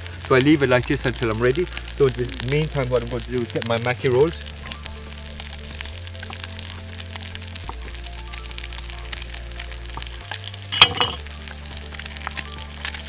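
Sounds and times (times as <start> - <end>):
fish sizzling in a pan: 0.0 - 13.0
soft background music: 0.0 - 13.0.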